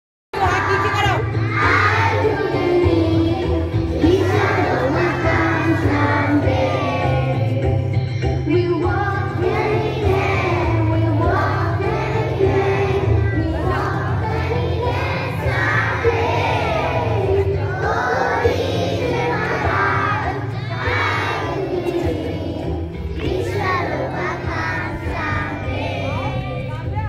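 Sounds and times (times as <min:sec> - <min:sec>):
children singing in chorus: 0:01.4 - 0:07.9, 0:08.8 - 0:26.7.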